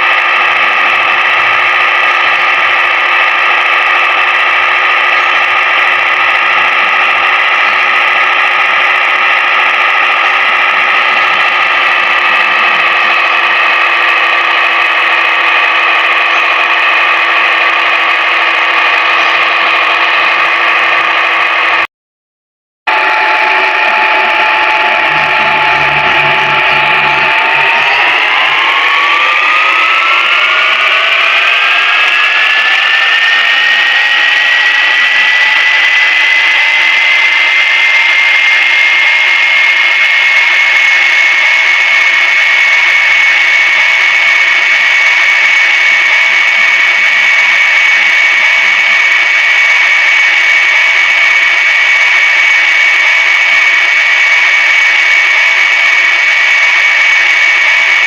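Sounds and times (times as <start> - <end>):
high-pitched motor whine: 0.0 - 21.8, 22.9 - 58.0.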